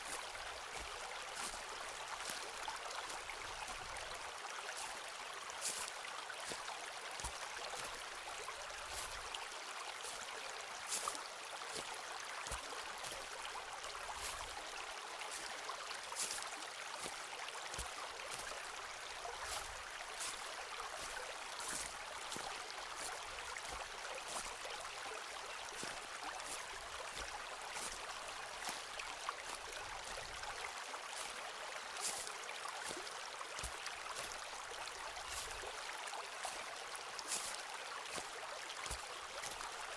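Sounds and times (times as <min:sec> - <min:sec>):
footsteps on forest floor: 0:00.0 - 0:05.0, 0:05.6 - 0:08.1, 0:08.8 - 0:09.3, 0:10.9 - 0:31.4, 0:32.0 - 0:36.6, 0:37.2 - 0:39.8
stream flowing: 0:00.0 - 0:39.9.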